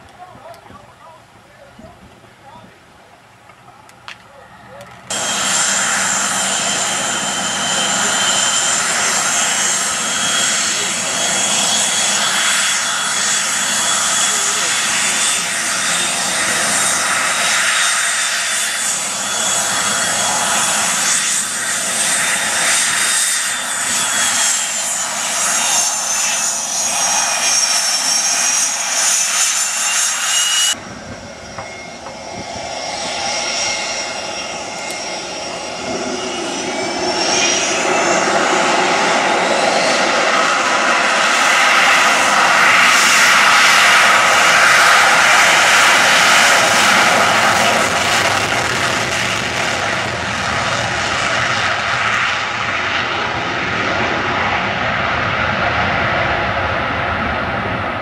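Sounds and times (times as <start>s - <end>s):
jet engine turbine whine: 0.0s - 58.0s.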